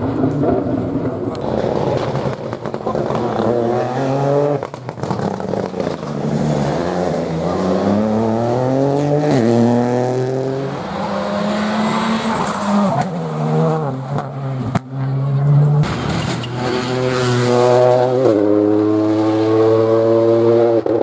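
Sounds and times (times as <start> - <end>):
car engine revving through upshifts: 1.4 - 21.0.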